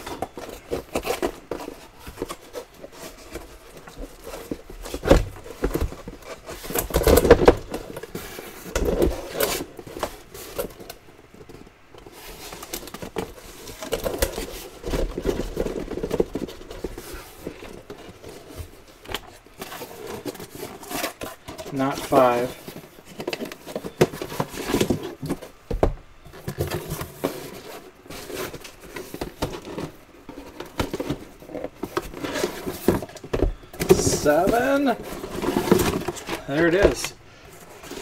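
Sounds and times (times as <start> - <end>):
cardboard scraping and rustling: 0.0 - 38.0.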